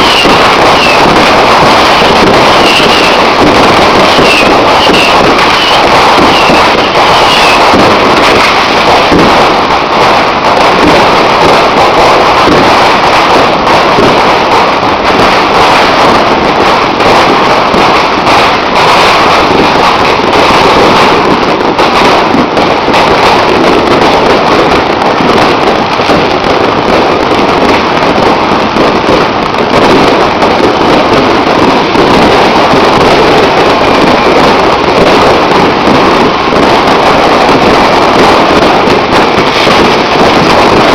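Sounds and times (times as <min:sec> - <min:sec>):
fireworks and firecrackers banging: 0:00.0 - 0:40.9.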